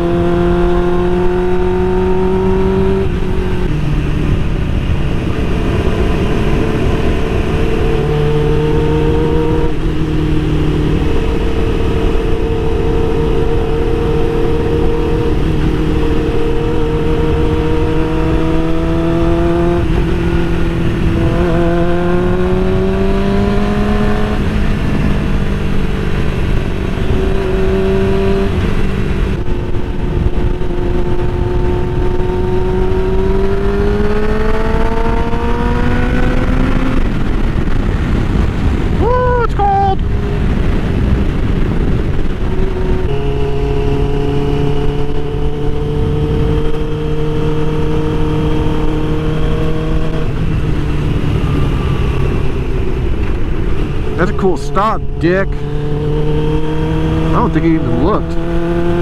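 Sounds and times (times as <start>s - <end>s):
wind noise on microphone: 0.0s - 54.2s
motorcycle engine: 0.0s - 59.0s.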